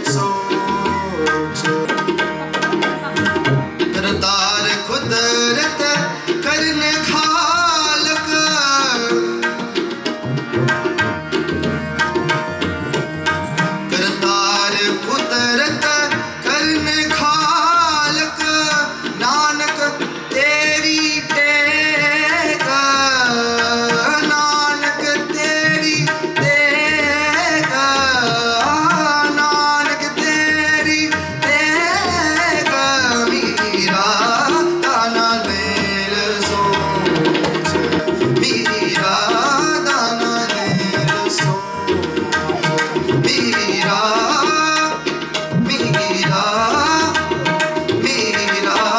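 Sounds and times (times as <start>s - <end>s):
tabla drumming: 0.0s - 48.9s.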